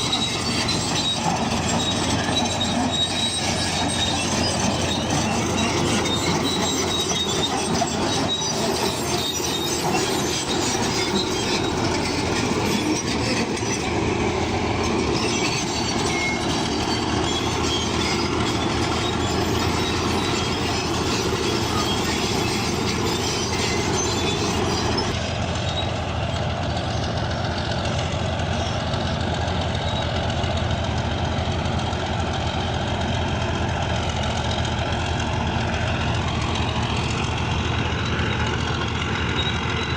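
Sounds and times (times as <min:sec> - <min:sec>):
diesel engine running: 0:00.0 - 0:39.9
steel tracks squealing and clanking: 0:00.0 - 0:39.9.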